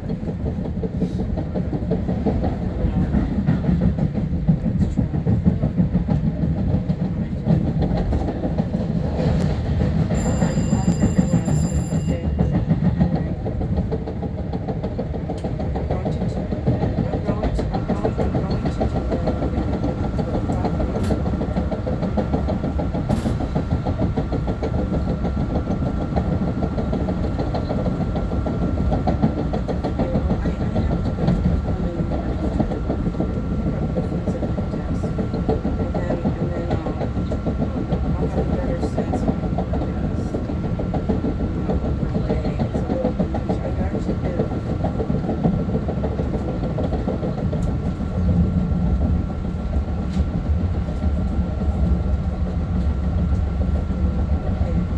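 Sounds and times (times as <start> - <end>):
train wheels rumbling on track: 0.0 - 54.9.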